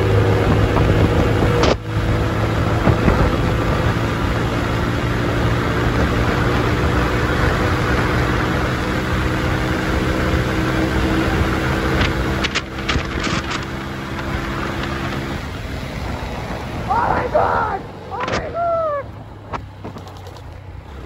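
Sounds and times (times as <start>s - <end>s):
road and wind noise: 0.0s - 21.0s
vehicle engine hum: 0.0s - 21.0s.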